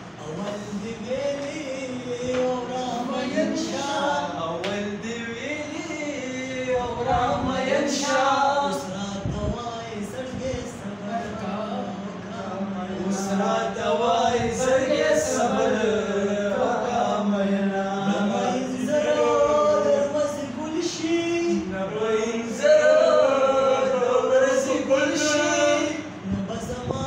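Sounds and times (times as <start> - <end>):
men singing unaccompanied: 0.2 - 27.0.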